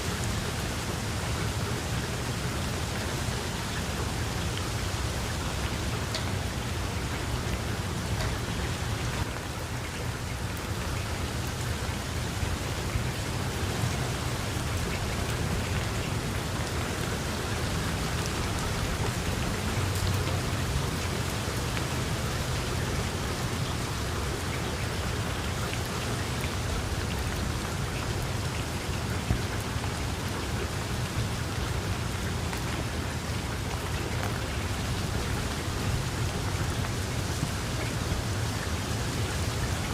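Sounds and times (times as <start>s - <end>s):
heavy rain falling: 0.0s - 39.9s
raindrops ticking: 3.0s - 39.9s.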